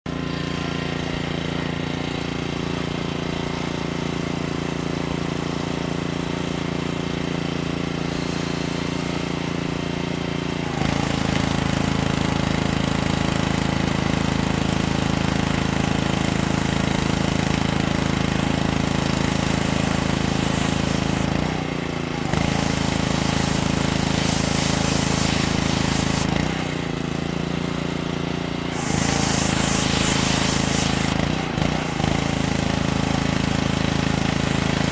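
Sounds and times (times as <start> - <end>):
heavy machinery engine running: 0.1 - 34.9.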